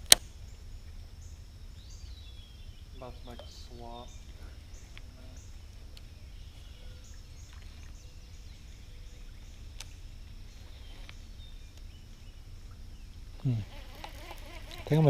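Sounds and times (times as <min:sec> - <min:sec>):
river rumble: 0:00.0 - 0:15.0.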